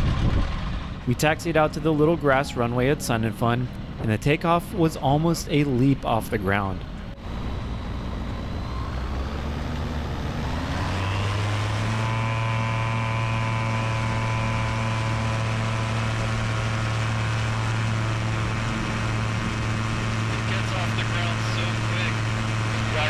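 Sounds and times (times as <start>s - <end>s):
aircraft engine and propeller drone: 0.0s - 23.0s.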